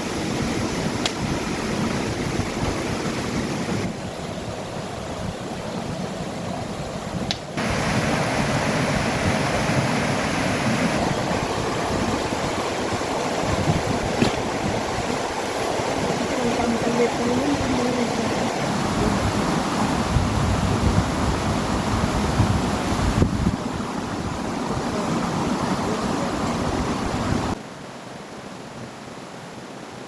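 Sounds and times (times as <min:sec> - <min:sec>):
strong wind gusting on microphone: 0:00.0 - 0:27.6.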